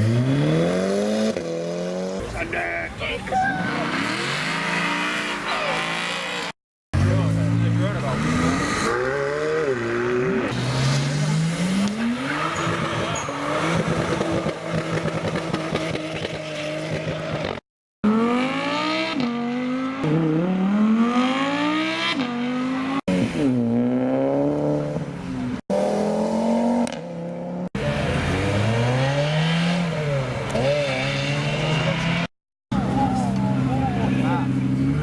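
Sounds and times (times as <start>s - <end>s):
sports car engines revving: 0.0s - 2.4s, 3.6s - 35.0s.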